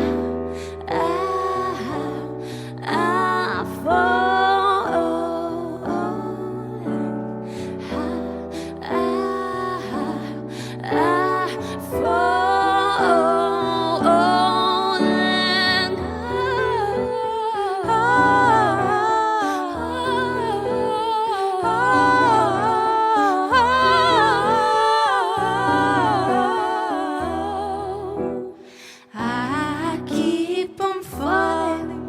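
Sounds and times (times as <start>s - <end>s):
piano chords: 0.0s - 32.0s.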